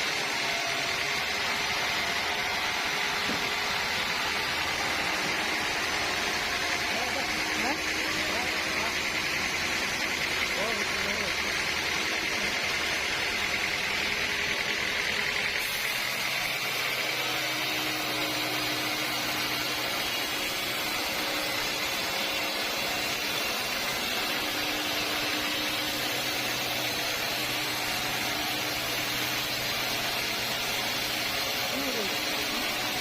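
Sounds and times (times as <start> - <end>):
sawmill saw running: 0.0 - 33.0.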